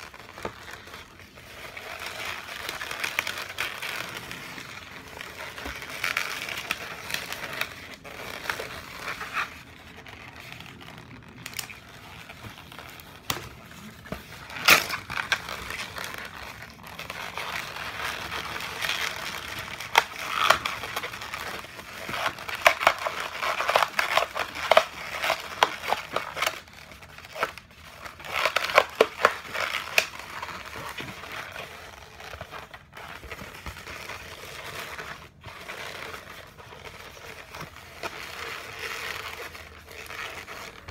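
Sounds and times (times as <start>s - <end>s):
balloons squeaking and crackling: 0.0s - 40.9s.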